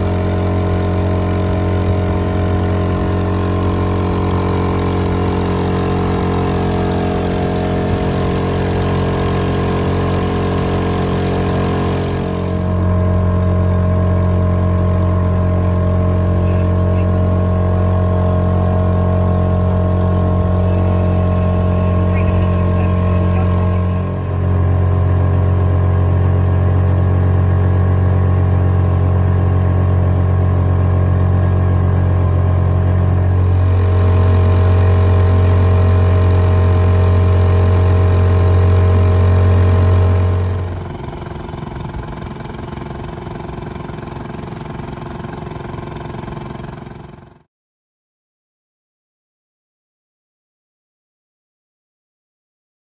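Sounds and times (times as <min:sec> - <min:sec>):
outboard motor running: 0:00.0 - 0:47.5.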